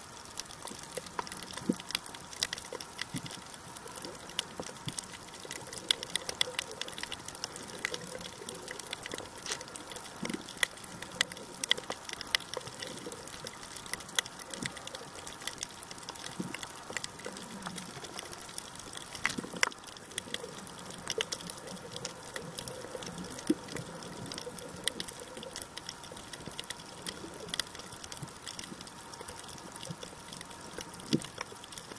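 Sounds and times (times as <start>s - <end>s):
faint steady hum: 0.0s - 31.9s
underwater crackle of clicks: 0.0s - 31.9s.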